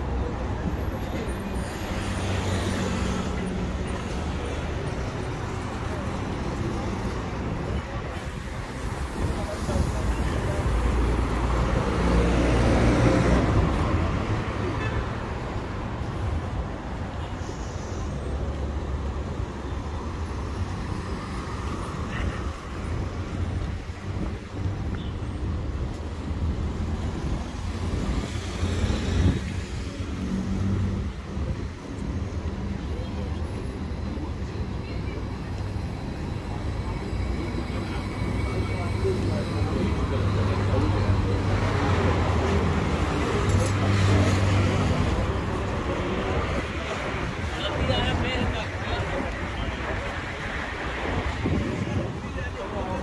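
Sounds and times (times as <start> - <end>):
cars passing on a road: 0.0 - 53.0.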